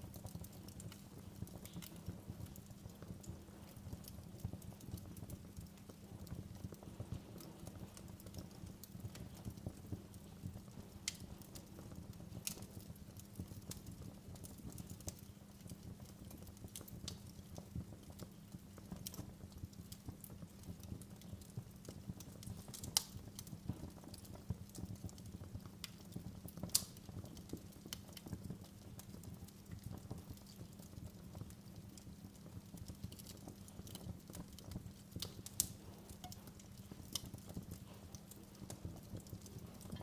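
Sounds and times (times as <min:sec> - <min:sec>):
fire popping: 0:00.0 - 0:40.0
wood fire crackling: 0:00.0 - 0:40.0.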